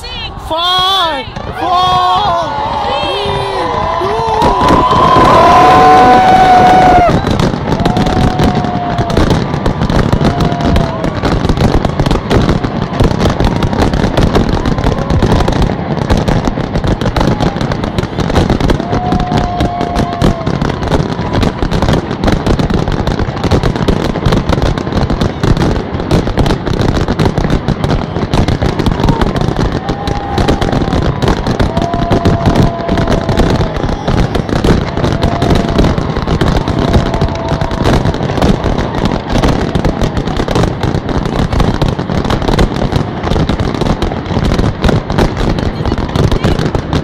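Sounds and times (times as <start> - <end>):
fireworks bursts and crackles: 0.0 - 47.0.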